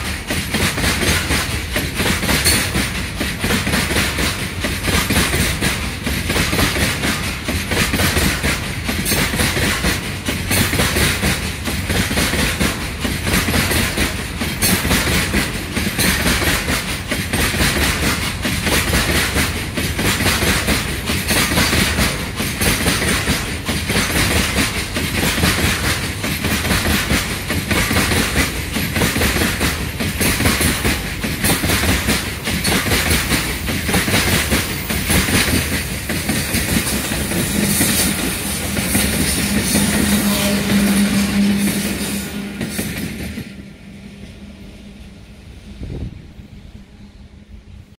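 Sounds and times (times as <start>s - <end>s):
train wheels clattering over rail joints: 0.0s - 43.7s.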